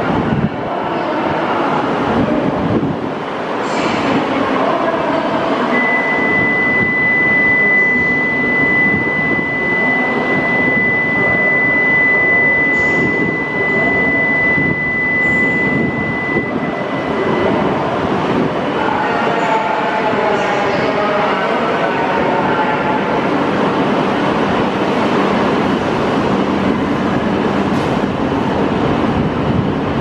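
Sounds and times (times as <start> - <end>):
station noise: 0.0 - 30.0
steady high-pitched tone: 3.7 - 29.2.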